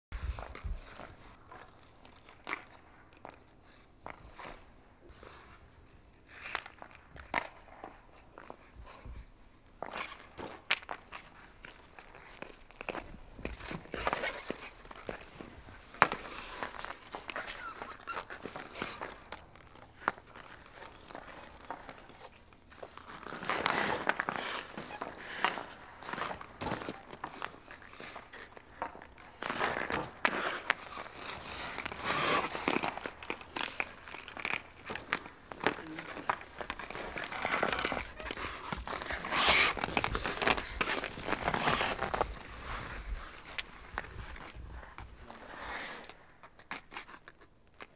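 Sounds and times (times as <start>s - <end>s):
skate blade clicks on ice: 0.2s - 4.7s, 6.2s - 8.8s, 9.8s - 47.9s
skate blades scraping ice: 0.2s - 47.9s.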